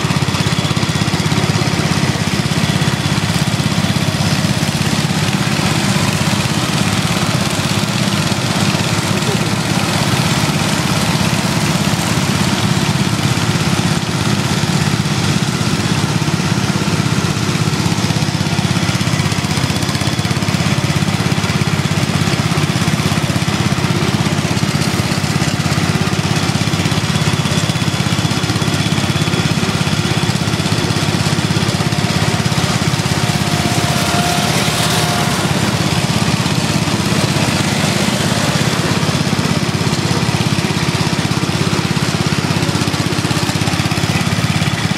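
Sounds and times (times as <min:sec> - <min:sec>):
lawn tractor engines running: 0:00.0 - 0:44.9.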